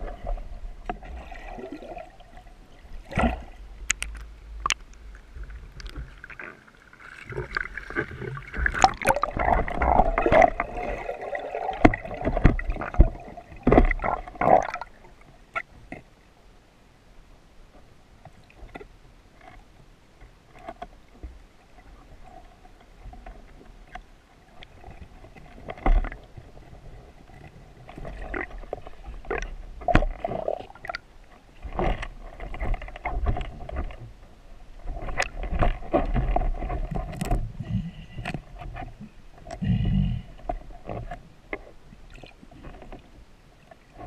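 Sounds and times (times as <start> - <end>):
low underwater rumbling: 0.0 - 16.1, 20.3 - 44.0
muffled underwater knocks and scrapes: 2.8 - 11.0, 11.8 - 14.6, 17.8 - 44.0.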